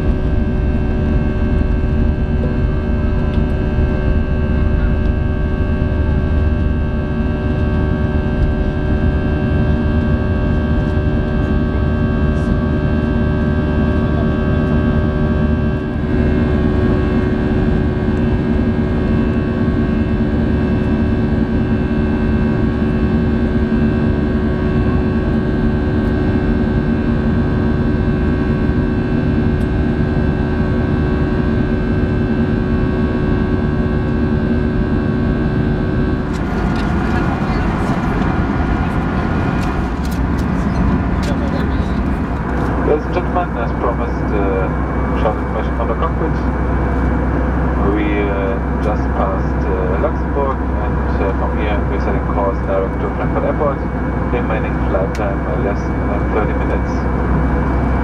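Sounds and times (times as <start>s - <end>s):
jet engines droning in cabin: 0.0s - 58.0s.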